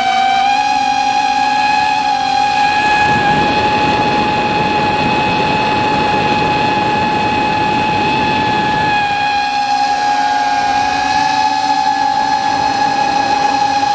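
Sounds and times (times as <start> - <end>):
small aircraft engine and propeller: 0.0 - 13.9
wind rushing: 2.3 - 13.6.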